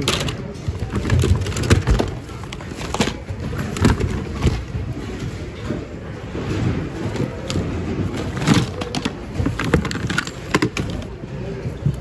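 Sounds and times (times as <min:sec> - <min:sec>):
plastic toys clattering in a bin: 0:00.0 - 0:11.2.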